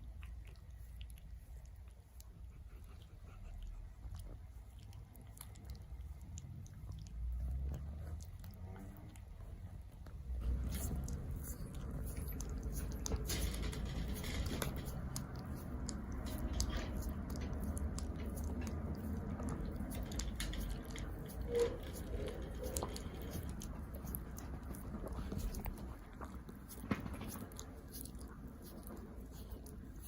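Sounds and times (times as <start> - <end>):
dog licking: 0.0 - 30.0.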